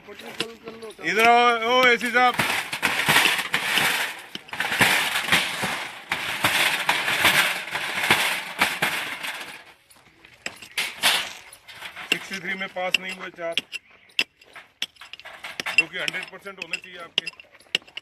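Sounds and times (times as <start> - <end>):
crunching and scraping on gravel: 0.0 - 18.0.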